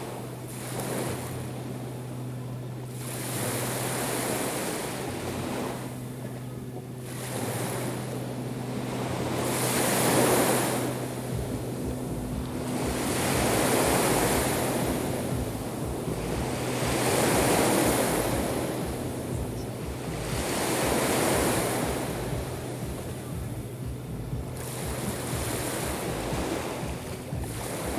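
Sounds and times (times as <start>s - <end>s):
surf breaking on shore: 0.0s - 27.9s
faint low hum: 0.1s - 27.9s.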